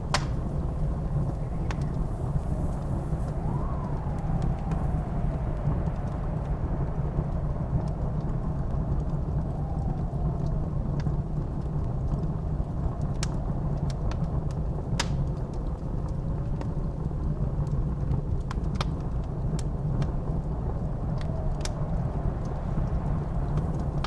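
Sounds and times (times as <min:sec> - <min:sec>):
blizzard wind rumbling: 0:00.0 - 0:24.0
wind whistling howl: 0:00.0 - 0:24.0
wood fire crackling: 0:00.0 - 0:24.0.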